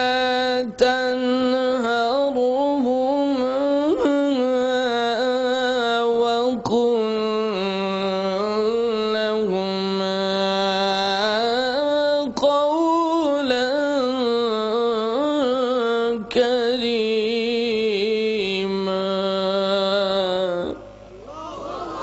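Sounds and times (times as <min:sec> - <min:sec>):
man chanting: 0:00.0 - 0:21.6.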